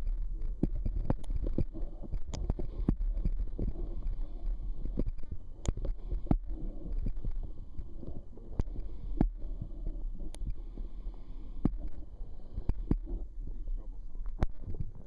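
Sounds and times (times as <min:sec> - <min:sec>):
low underwater rumble: 0:00.0 - 0:15.0.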